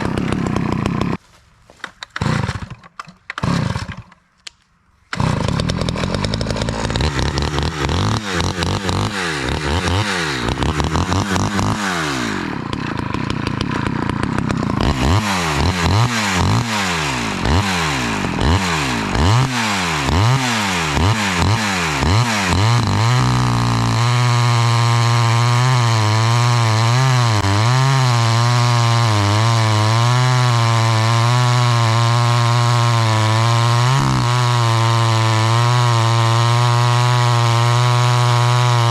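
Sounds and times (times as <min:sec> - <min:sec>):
chainsaw revving: 0:00.0 - 0:01.2, 0:02.2 - 0:04.2, 0:05.1 - 0:38.9
chainsaw sawing wood: 0:00.0 - 0:04.2, 0:05.0 - 0:38.9.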